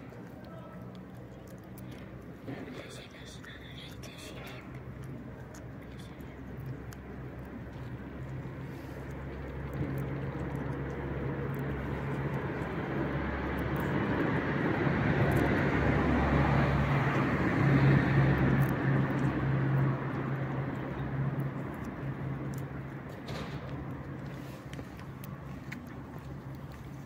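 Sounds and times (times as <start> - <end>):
cat chewing wet food: 0.0 - 27.0
vehicle engine hum and road noise: 0.0 - 27.0.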